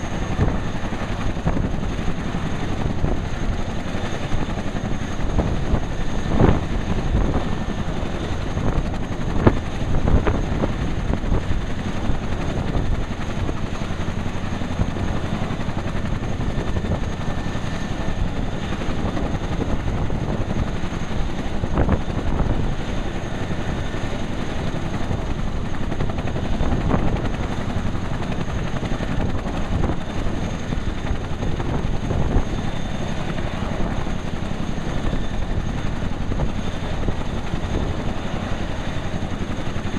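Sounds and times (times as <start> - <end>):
helicopter engines and rotors running: 0.0 - 39.9.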